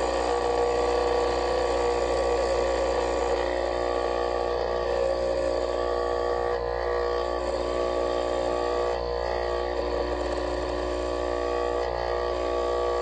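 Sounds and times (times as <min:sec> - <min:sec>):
vibrator humming: 0:00.0 - 0:13.0.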